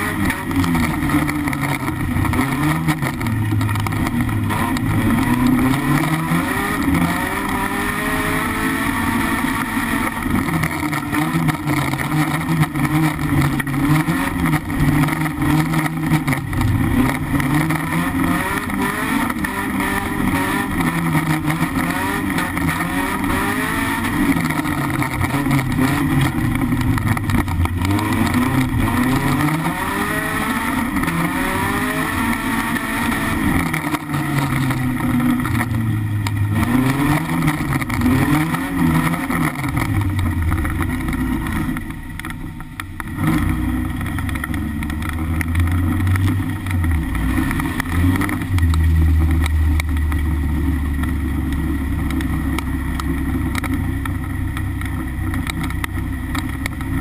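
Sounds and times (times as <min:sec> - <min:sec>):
car engine revving hard: 0:00.0 - 0:42.3, 0:43.0 - 0:57.0.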